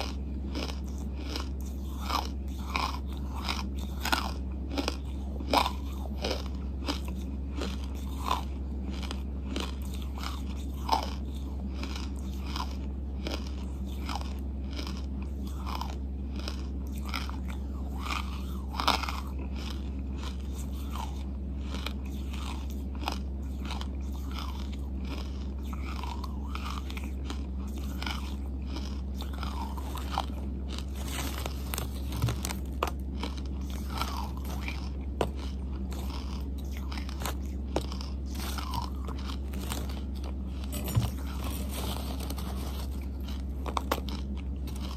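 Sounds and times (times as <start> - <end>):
wet mouth clicks chewing: 0.0 - 41.3
steady low hum: 0.0 - 44.9.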